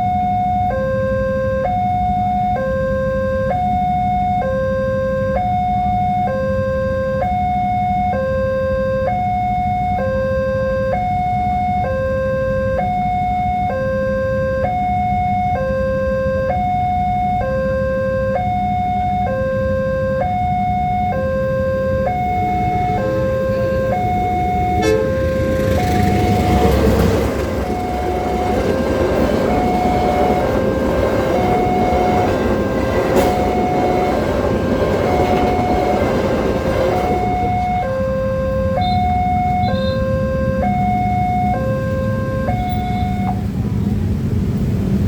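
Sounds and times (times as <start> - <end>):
level crossing two-tone alarm: 0.0 - 43.5.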